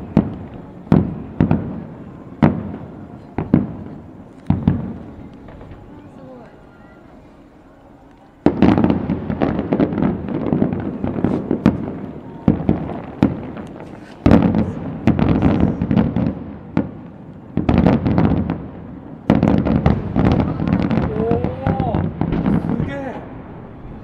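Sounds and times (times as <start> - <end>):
firework booms: 0.0 - 6.4, 8.4 - 24.0
firework crackling: 0.0 - 24.0.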